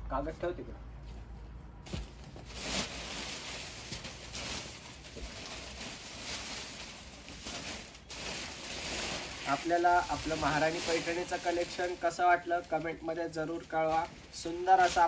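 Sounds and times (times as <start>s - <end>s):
paper and cloth rustling: 1.9s - 15.0s.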